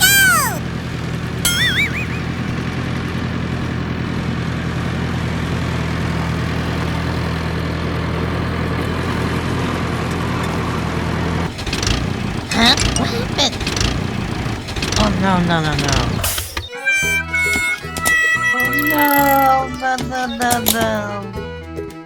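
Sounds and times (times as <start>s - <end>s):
engine idling: 0.6s - 21.2s.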